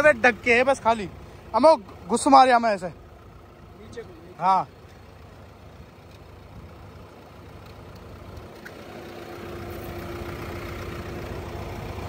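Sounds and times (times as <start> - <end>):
diesel engine approaching: 0.0 - 12.0.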